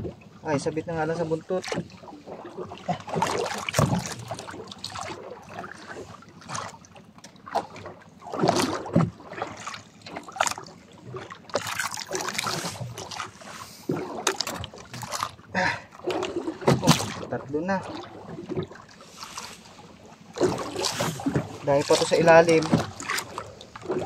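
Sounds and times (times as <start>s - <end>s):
water splashing against boat: 0.0s - 24.0s.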